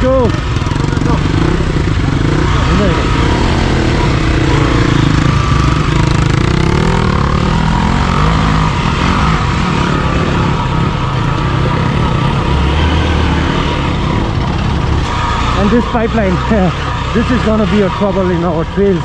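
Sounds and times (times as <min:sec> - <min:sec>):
off-road motorcycle engine running: 0:00.0 - 0:19.0.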